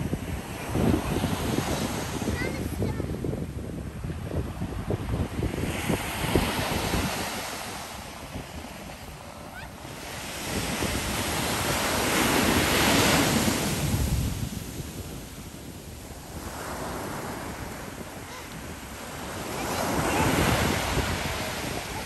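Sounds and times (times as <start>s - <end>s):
ocean surf breaking: 0.0s - 22.0s
wind buffeting the microphone: 0.0s - 22.0s.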